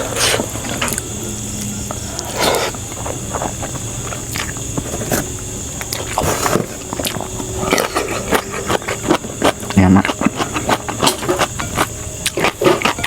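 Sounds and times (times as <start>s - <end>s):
person chewing: 0.0s - 13.0s
steady background hiss: 0.0s - 13.0s.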